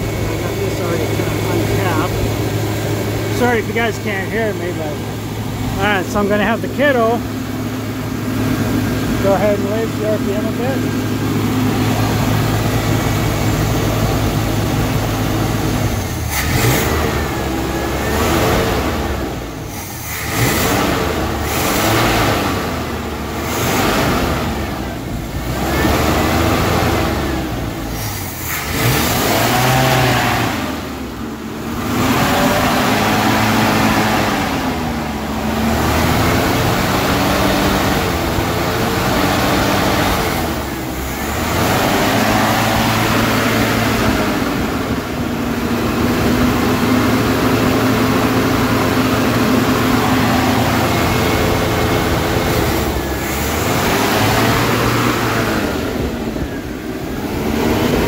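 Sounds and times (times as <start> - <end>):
engine revving: 0.0 - 58.0.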